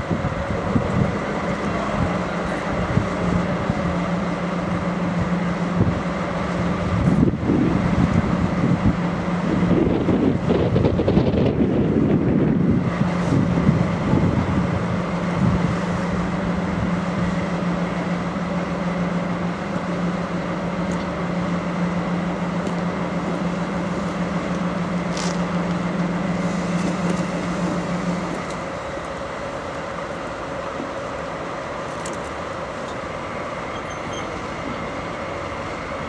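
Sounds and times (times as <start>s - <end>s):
diesel locomotive droning: 0.0s - 36.0s.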